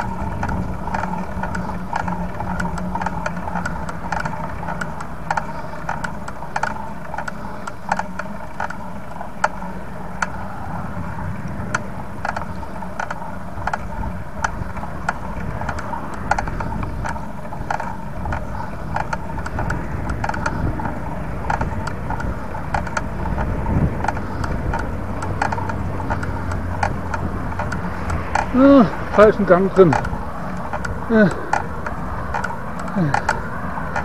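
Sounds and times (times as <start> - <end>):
wind on microphone: 0.0 - 4.7, 10.3 - 34.0
bicycle parts clicking and rattling: 0.0 - 34.0
tyres rumbling: 0.0 - 34.0.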